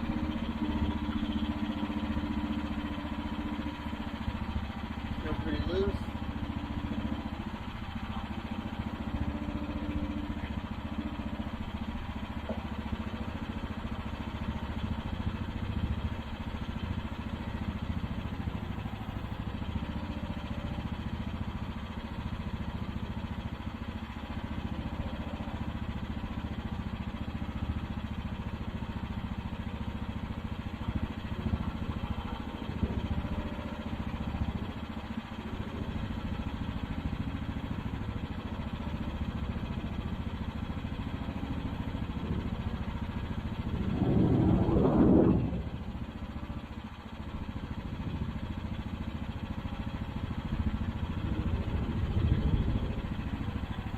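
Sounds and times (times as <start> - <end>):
excavator engine running: 0.0 - 53.9.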